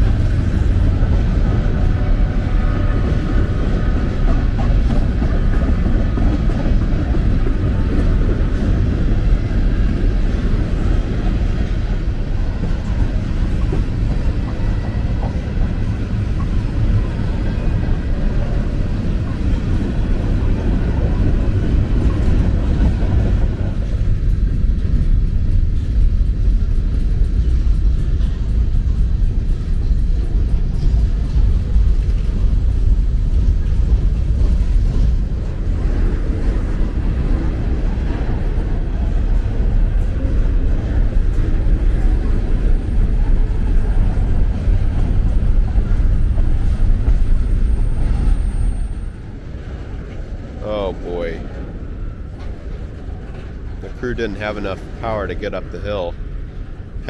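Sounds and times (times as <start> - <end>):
freight train wheels rumbling on rail: 0.0 - 57.0
train wheels clattering: 0.0 - 57.0.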